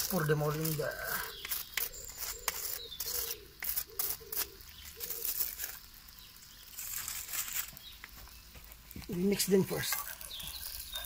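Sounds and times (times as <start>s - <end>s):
onion sizzling in oil: 0.0s - 11.0s
sharp crackles and pops: 0.0s - 11.0s.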